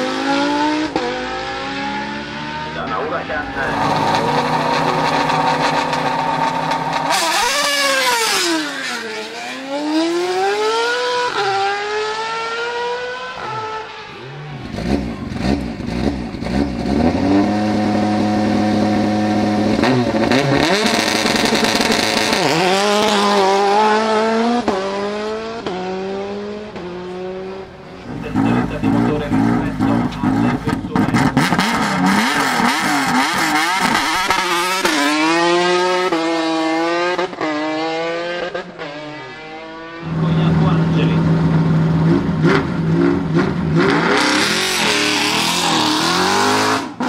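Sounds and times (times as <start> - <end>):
formula car launching: 0.0 - 47.0
rally car idling and launching: 0.0 - 47.0.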